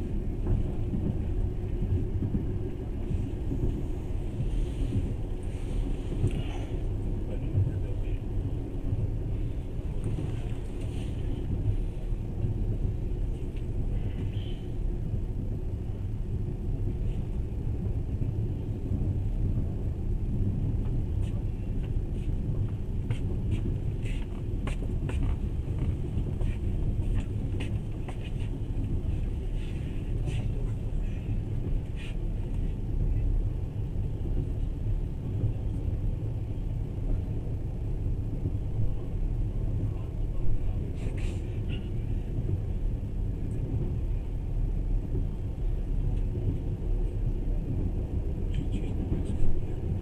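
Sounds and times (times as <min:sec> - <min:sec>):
train rumbling: 0:00.0 - 0:50.0.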